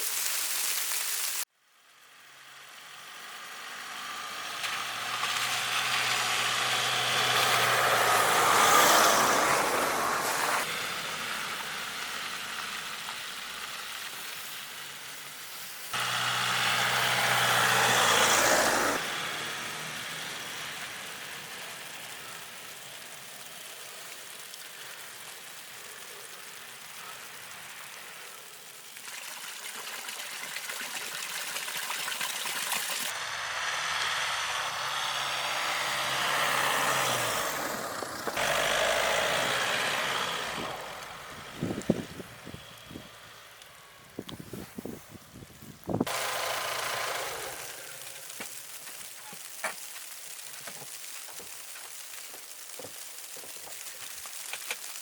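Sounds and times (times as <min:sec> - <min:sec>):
vehicle engine and tyre noise: 0:01.8 - 0:28.9, 0:33.0 - 0:55.0.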